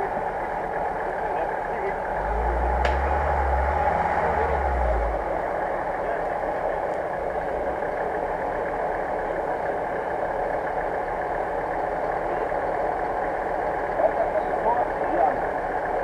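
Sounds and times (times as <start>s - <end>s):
off-road engine idling: 0.0s - 16.0s.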